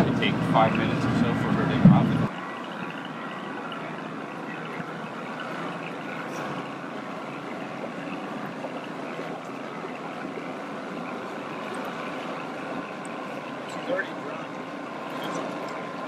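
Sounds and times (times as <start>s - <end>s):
motorboat engine running: 0.0s - 16.0s
water rushing: 0.0s - 16.0s.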